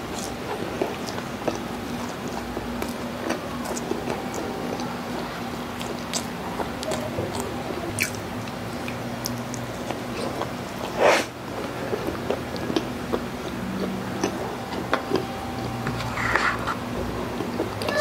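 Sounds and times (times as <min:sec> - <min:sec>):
chewing and mouth sounds: 0:00.0 - 0:18.0.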